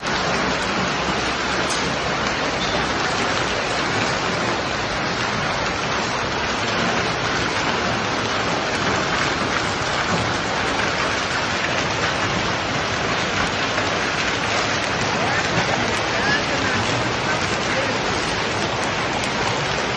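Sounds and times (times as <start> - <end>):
hail and heavy rain falling: 0.0 - 19.9.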